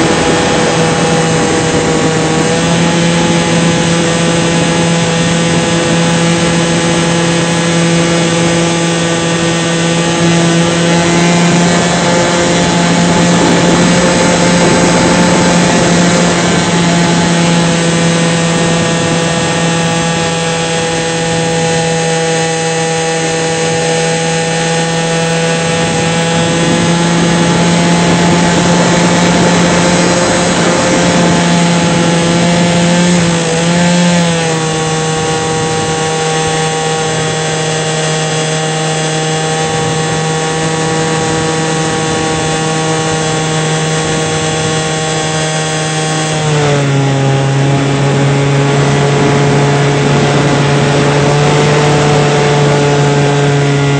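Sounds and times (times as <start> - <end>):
model airplane engine and propeller: 0.0 - 53.9.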